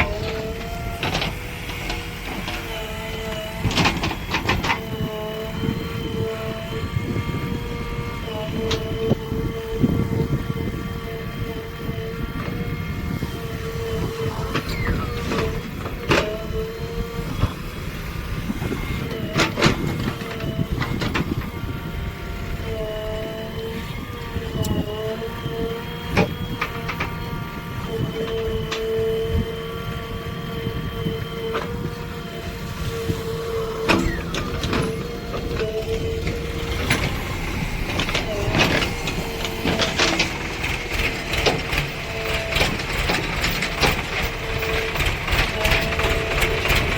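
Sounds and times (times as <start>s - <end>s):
diesel engine rumbling: 0.0s - 46.9s.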